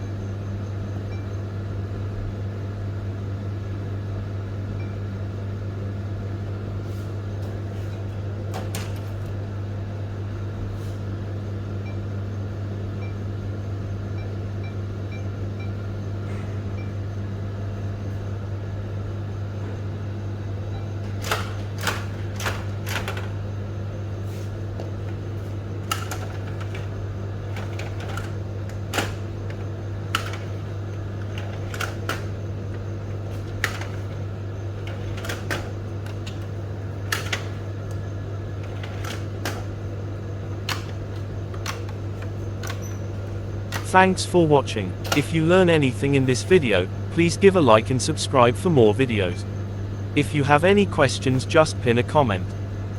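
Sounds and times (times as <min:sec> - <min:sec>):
photocopier machine hum: 0:00.0 - 0:52.9.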